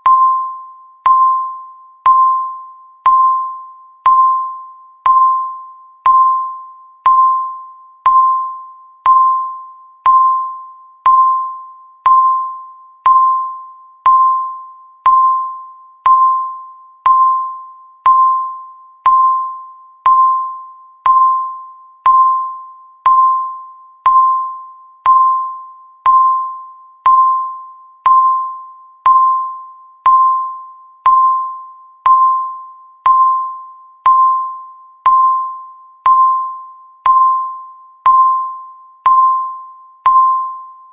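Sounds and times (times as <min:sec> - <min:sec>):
timer ding ticking: 0:00.0 - 0:40.9.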